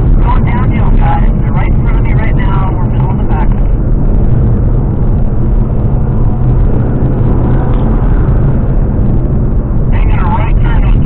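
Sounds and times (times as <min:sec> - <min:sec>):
car engine and road noise drone: 0:00.0 - 0:11.0.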